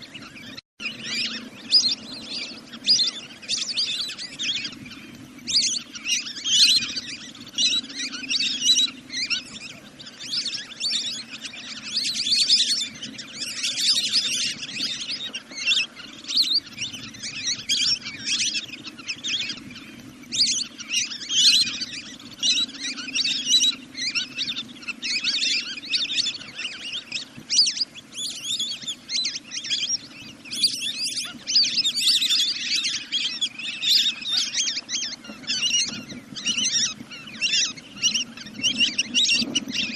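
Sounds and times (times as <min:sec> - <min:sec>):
high bird chirping calls: 0:00.0 - 0:39.9.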